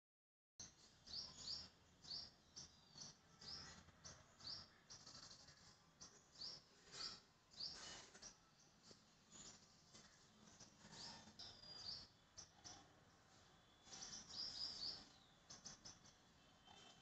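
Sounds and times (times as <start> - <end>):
quiet background noise: 0.6 - 17.0
small bird chirping: 0.6 - 17.0.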